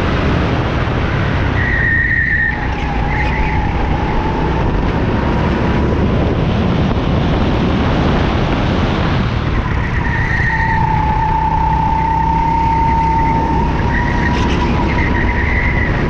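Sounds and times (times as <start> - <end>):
go-kart engine whine: 0.0 - 16.0
wind rushing over microphone: 0.0 - 16.0.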